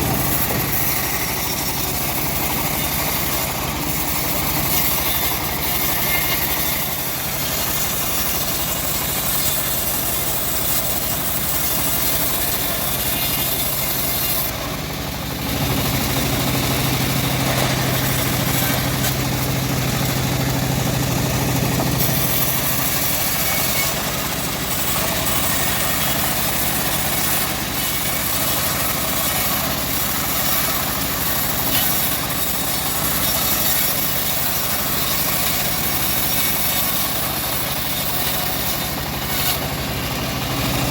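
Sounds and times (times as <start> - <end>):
engine-driven bandsaw sawing log: 0.0 - 40.9.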